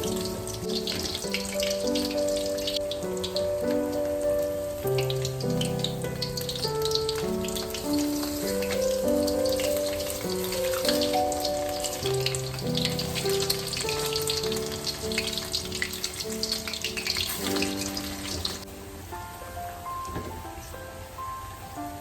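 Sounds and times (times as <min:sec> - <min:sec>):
crackling hiss: 0:00.0 - 0:22.0
gentle music with held notes: 0:00.0 - 0:22.0.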